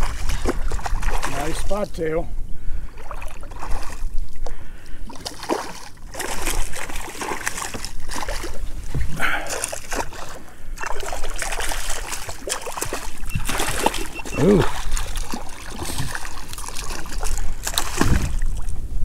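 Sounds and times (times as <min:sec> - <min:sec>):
water splashing and trickling: 0:00.0 - 0:18.9.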